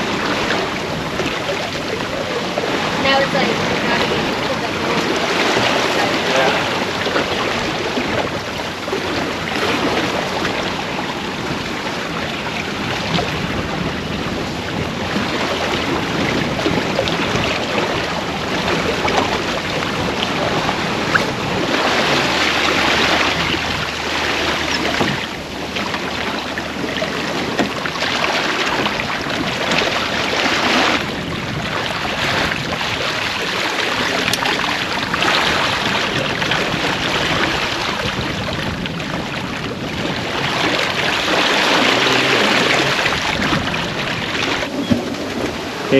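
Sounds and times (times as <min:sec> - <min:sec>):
water rushing along a hull: 0:00.0 - 0:45.9
wind: 0:00.0 - 0:45.9.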